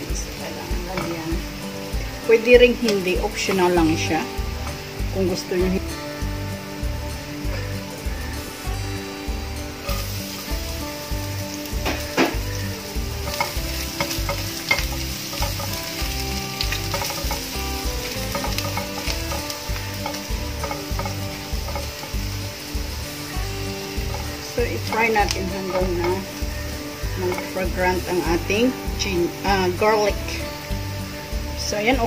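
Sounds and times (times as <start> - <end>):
garlic sizzling in hot oil: 0.0 - 32.0.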